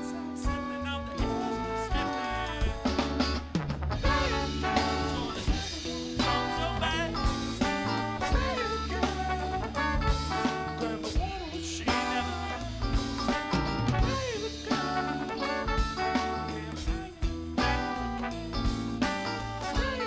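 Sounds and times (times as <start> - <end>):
bass: 0.0 - 20.0
drum kit beat: 0.0 - 20.0
horn section playing: 0.0 - 20.0.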